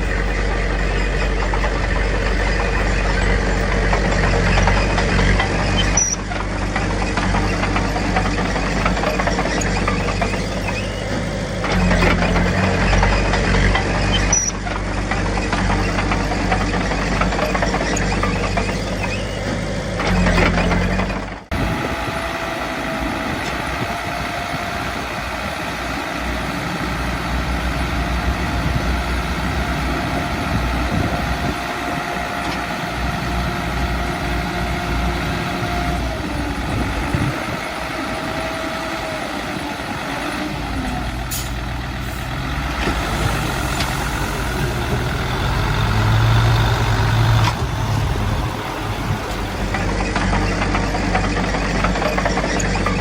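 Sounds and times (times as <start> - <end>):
heavy diesel machinery engines: 0.0 - 53.0.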